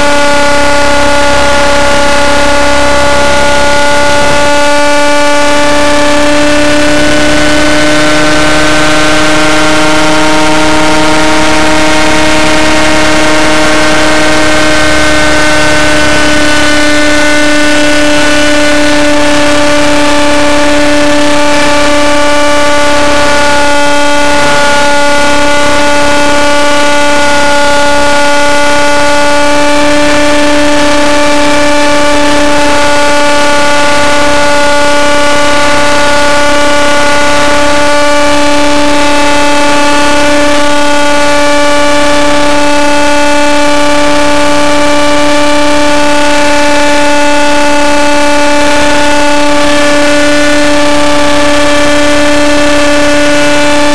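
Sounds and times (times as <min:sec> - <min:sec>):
model helicopter engine whine: 0:00.0 - 0:53.9.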